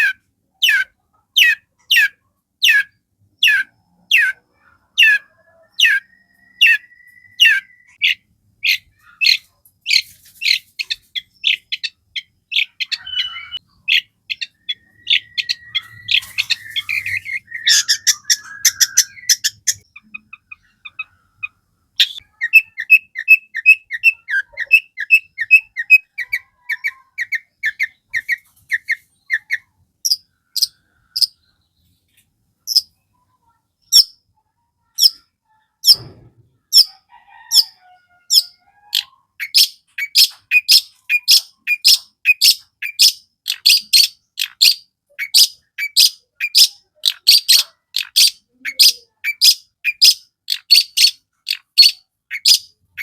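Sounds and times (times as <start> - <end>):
bird chattering song: 0.0 - 53.0.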